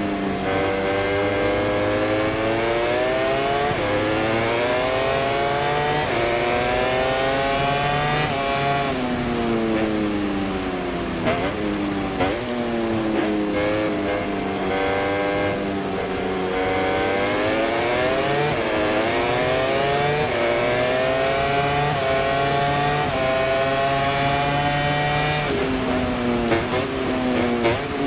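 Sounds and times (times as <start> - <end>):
racing motorcycle engine accelerating: 0.0 - 28.0.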